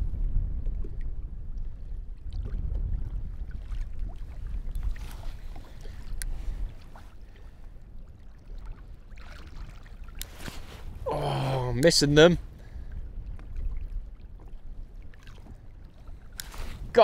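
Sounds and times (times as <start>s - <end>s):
wind rumble on microphone: 0.0s - 17.0s
water lapping against kayak hull: 0.1s - 17.0s.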